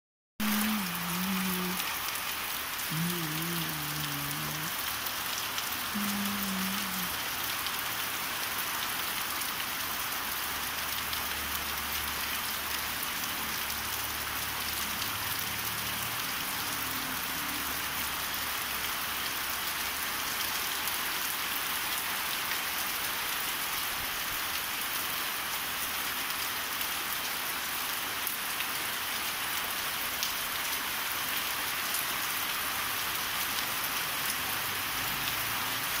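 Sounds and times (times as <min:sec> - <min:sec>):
steady rain on trees: 0:00.4 - 0:36.0.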